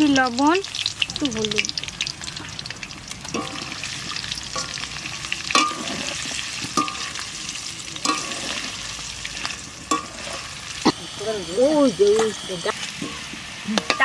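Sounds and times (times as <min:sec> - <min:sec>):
potatoes sizzling in hot oil: 0:00.0 - 0:14.0.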